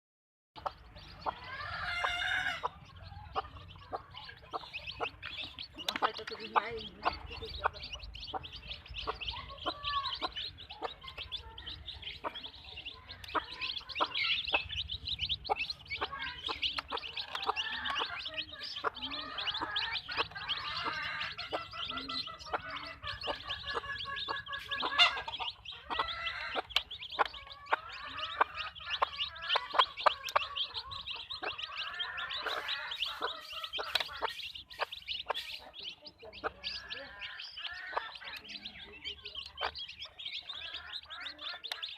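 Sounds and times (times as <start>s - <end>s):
hens clucking: 0.6s - 41.9s.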